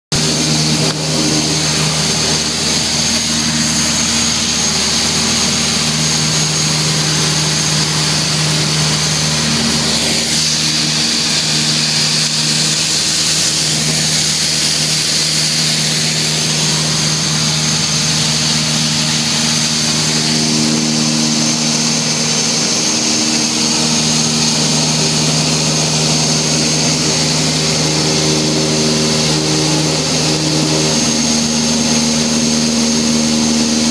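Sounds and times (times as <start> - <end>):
rush of airflow: 0.1 - 32.6
propeller aircraft engines droning: 0.1 - 33.9.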